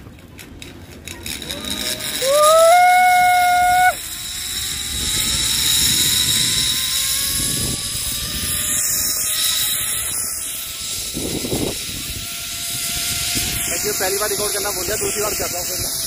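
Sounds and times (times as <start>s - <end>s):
zipline pulleys rolling on cable: 0.0s - 16.0s
rising whine: 1.4s - 16.0s.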